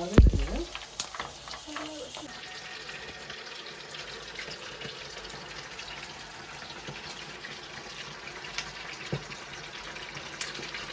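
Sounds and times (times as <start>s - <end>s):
deep-frying sizzle and crackles: 0.0s - 10.9s.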